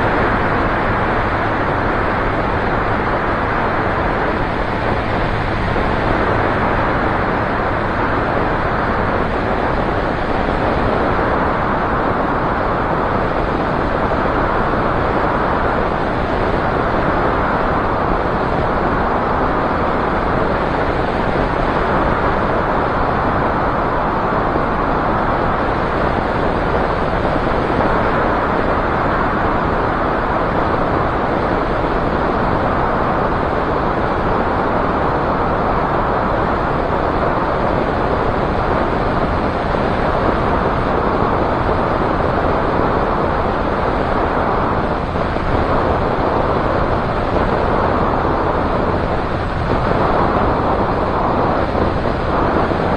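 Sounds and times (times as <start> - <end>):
propeller aircraft in flight: 0.0 - 52.9.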